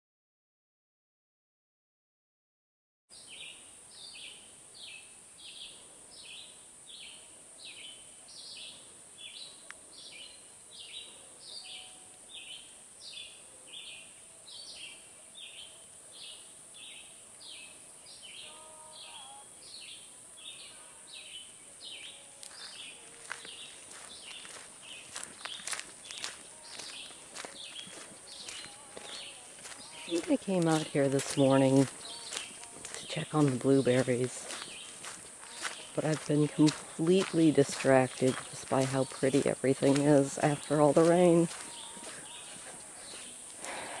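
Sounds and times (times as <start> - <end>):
high-pitched hiss: 3.2 - 44.0.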